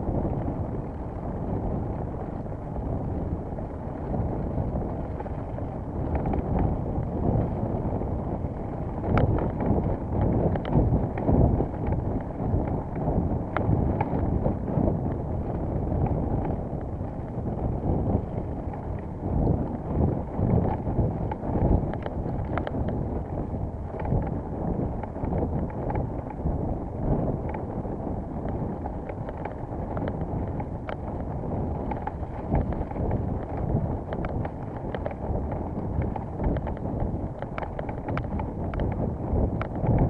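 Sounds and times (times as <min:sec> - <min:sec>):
bike clicks and rattles: 0:00.0 - 0:40.0
wind buffeting microphone: 0:00.0 - 0:40.0.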